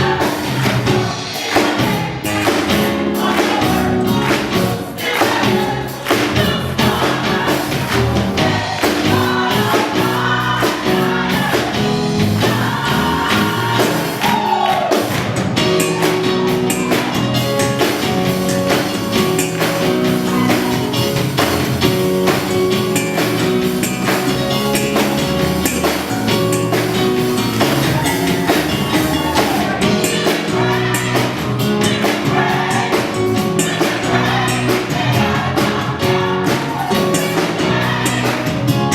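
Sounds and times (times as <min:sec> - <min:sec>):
choir singing gospel: 0:00.0 - 0:38.9
instrumental accompaniment with beat: 0:00.0 - 0:38.9.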